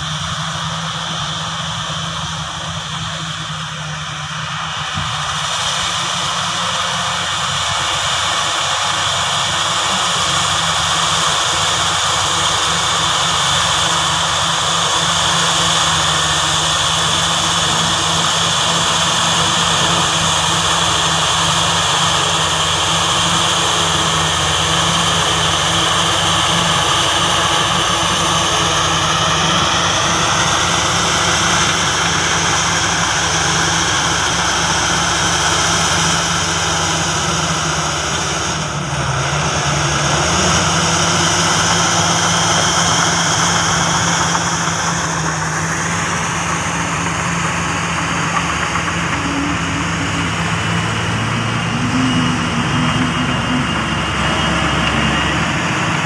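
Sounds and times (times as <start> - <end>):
bulldozer diesel engine running: 0.0 - 56.0
excavator working: 0.0 - 56.0
high whine: 0.0 - 56.0.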